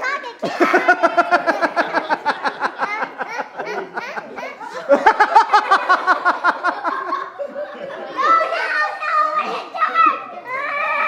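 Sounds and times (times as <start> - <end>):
children laughing: 0.0 - 11.0.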